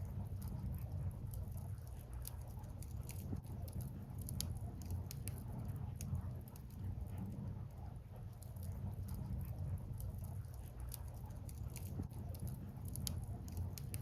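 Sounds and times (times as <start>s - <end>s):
firewood crackling and popping: 0.0s - 7.3s, 8.3s - 14.0s
fire low rumble: 0.0s - 14.0s.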